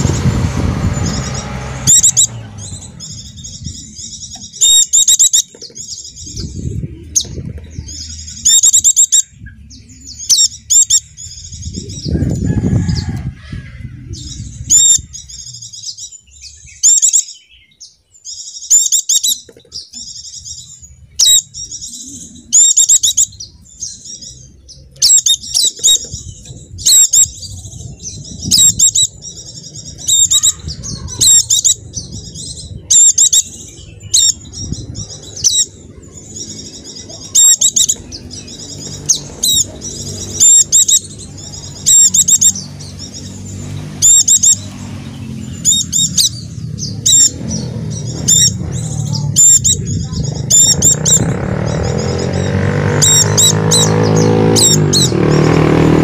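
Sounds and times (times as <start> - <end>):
low background rumble: 0.0 - 16.9, 19.4 - 55.4
bird twittering chirps: 0.0 - 56.0.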